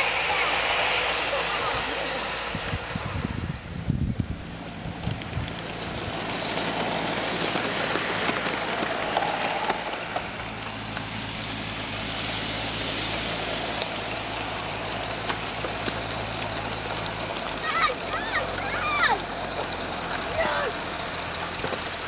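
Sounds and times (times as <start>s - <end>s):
steam hissing: 0.0s - 22.0s
wheels ticking on track: 0.0s - 22.0s.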